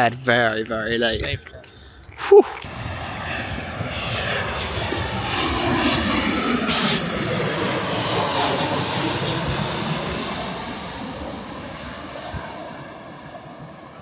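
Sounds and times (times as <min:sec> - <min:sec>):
jet engines whining: 0:02.4 - 0:14.0.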